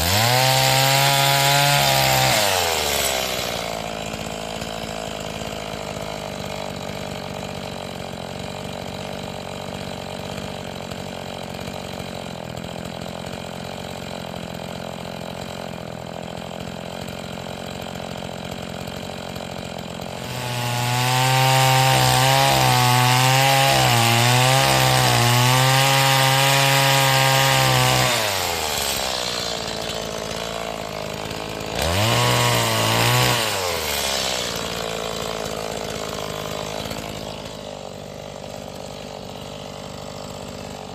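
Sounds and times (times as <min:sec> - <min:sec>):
chainsaw cutting: 0:00.0 - 0:40.9
chainsaw idling and revving: 0:00.0 - 0:40.9.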